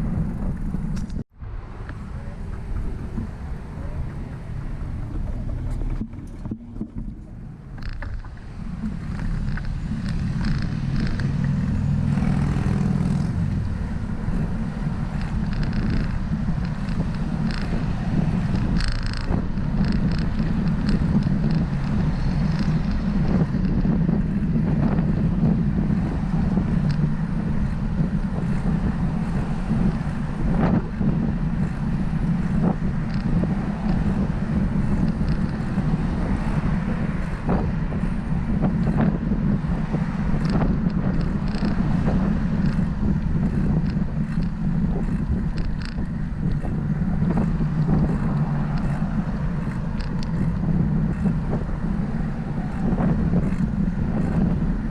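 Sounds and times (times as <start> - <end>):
bicycle clicks and rattles: 0.0 - 1.2, 3.8 - 54.9
wind buffeting microphone: 0.0 - 54.9.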